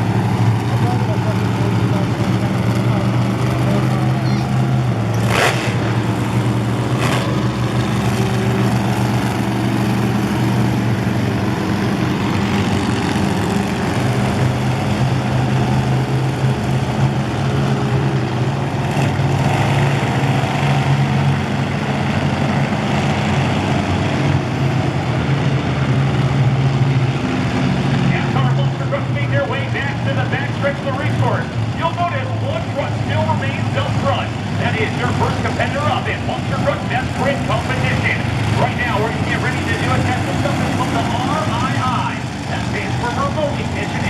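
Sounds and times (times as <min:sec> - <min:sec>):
monster truck engines droning: 0:00.0 - 0:44.0.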